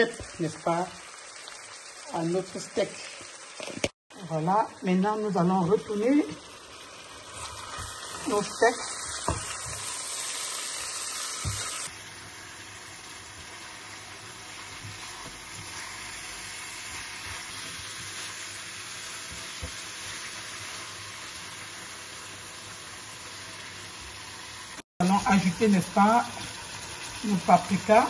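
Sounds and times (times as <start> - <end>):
steaks and onions sizzling in oil: 0.0 - 28.0.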